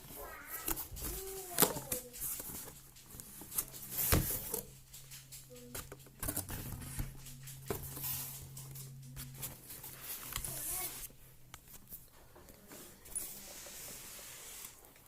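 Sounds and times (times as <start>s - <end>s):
packaging rustling: 0.0s - 12.1s.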